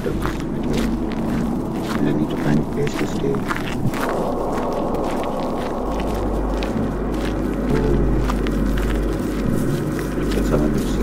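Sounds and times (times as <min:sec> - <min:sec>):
deep low rumble: 0:00.0 - 0:11.0
footsteps in dry leaves: 0:00.0 - 0:11.0.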